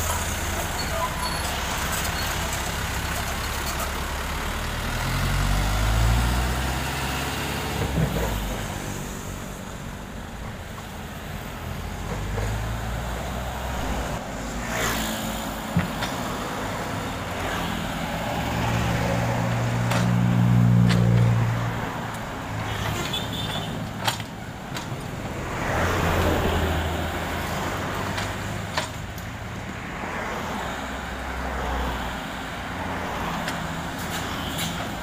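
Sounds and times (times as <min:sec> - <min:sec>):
dump truck diesel engine: 0:00.0 - 0:35.0.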